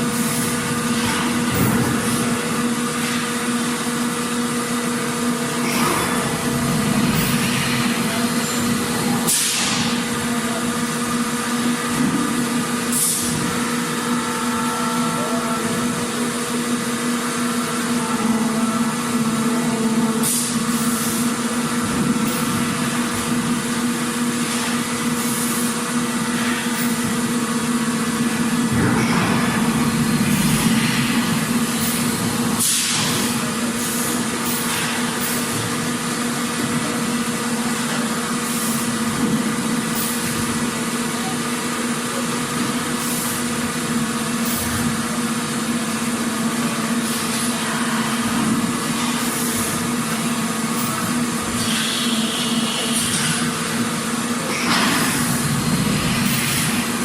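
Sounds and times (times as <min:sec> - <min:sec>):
factory machinery hum: 0:00.0 - 0:57.0.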